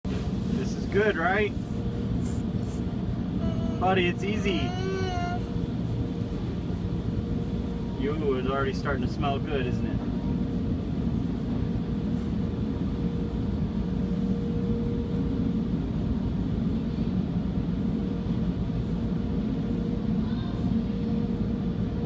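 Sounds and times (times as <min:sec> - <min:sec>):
car wash rumbling: 0:00.1 - 0:20.1
thin steady hum: 0:00.1 - 0:22.0.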